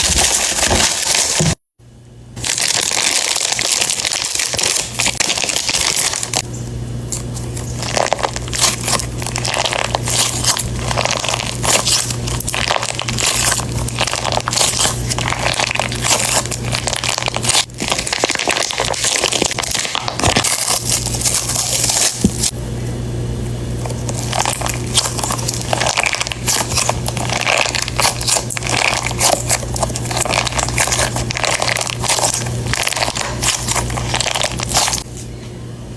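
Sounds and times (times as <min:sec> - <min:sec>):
plastic packaging crinkling: 0:00.0 - 0:01.6, 0:02.4 - 0:06.5, 0:07.1 - 0:22.5, 0:23.8 - 0:35.2
steady low hum: 0:00.0 - 0:35.9.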